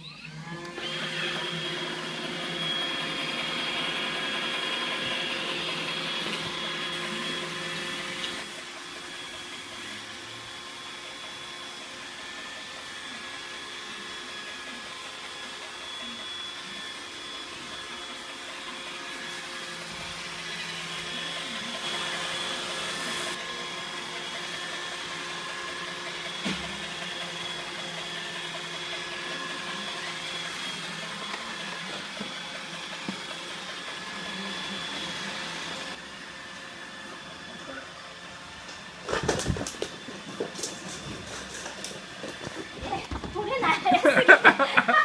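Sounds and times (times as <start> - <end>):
robot vacuum motor humming: 0.0 - 45.0.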